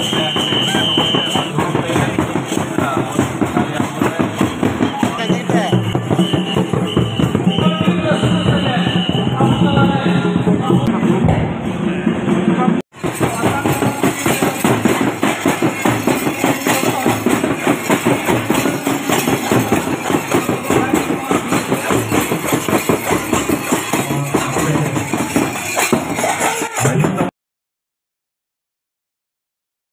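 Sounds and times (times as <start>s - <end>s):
music with fast drumming: 0.0s - 27.3s
voices in music: 0.0s - 27.3s.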